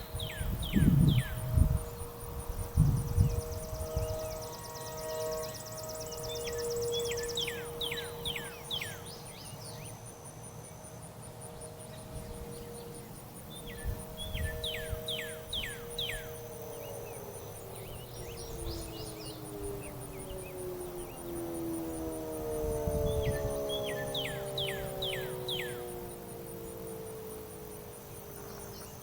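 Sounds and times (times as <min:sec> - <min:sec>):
distant storm siren wail: 0:00.0 - 0:29.0.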